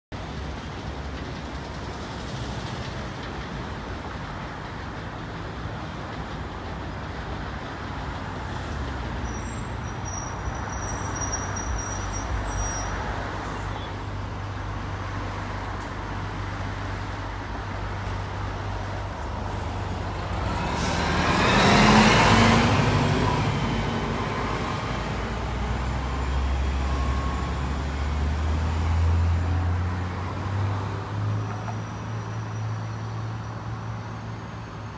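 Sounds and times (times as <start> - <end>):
bus driving past: 0.2 - 34.9.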